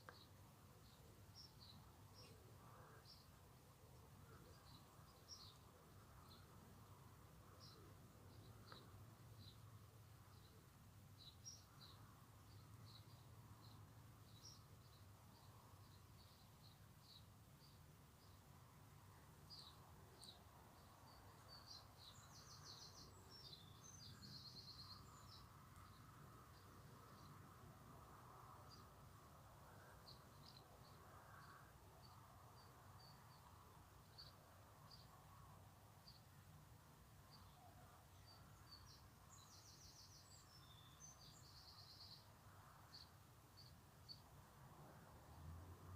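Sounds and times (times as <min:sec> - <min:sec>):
faint background hum: 0:00.0 - 0:45.9
songbird chirps and trills: 0:00.0 - 0:45.9.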